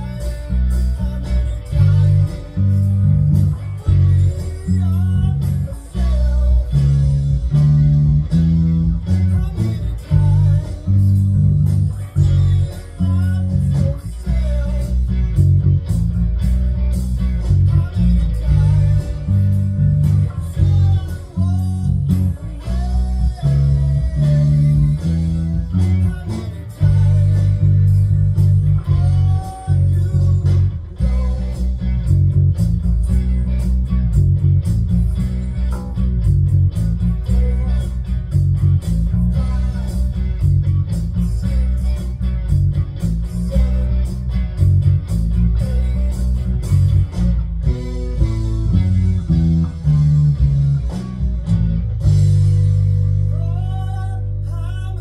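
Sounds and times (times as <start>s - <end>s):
blues band music: 0.0s - 55.0s
electric bass guitar blues line: 0.0s - 55.0s
lead guitar bending notes: 0.0s - 55.0s.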